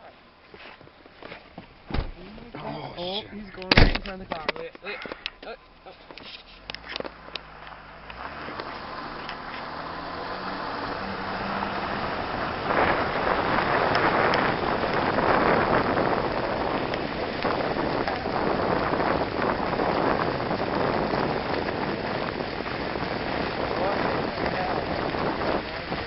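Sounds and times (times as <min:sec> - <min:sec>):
car tyre and road noise: 0:00.0 - 0:26.0.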